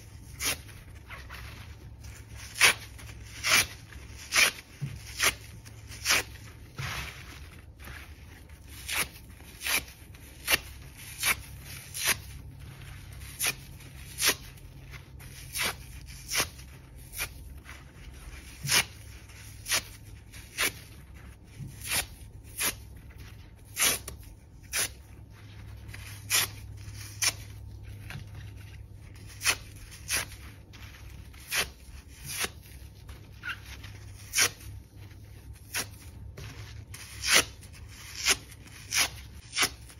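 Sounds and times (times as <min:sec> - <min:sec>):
sponge foam ripping: 0:00.0 - 0:39.9.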